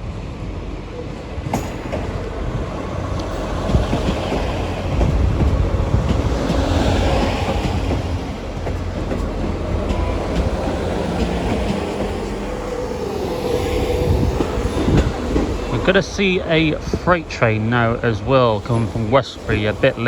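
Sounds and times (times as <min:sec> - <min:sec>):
train rumbling: 0:00.0 - 0:20.0
wheels clicking over rail joints: 0:01.2 - 0:20.0.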